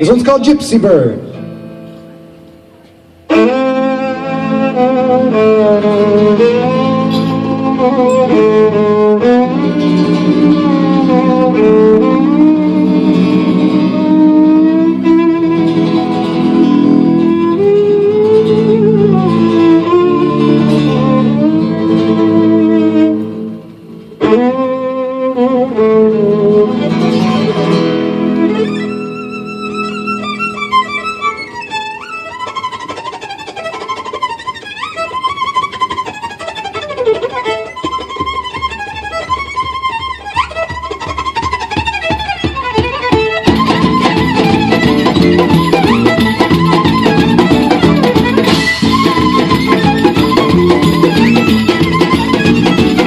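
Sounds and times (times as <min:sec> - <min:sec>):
guitar: 0:00.0 - 0:53.0
violin melody: 0:00.0 - 0:53.0
live band playing instrumental: 0:00.8 - 0:53.0.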